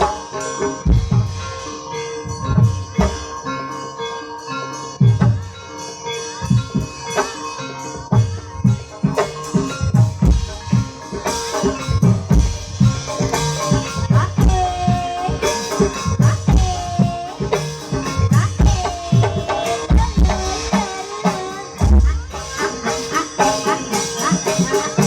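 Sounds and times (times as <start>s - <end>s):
hand drums beating: 0.0s - 3.6s, 5.0s - 5.7s, 6.4s - 25.0s.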